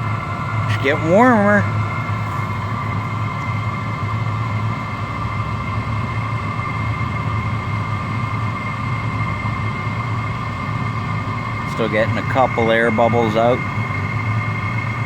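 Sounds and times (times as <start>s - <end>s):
constant high whine: 0.0s - 15.0s
diesel heater humming: 0.0s - 15.0s.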